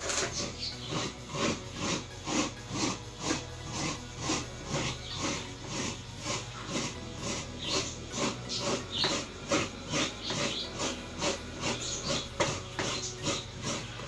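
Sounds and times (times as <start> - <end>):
coconut grater rasping: 0.0 - 14.0.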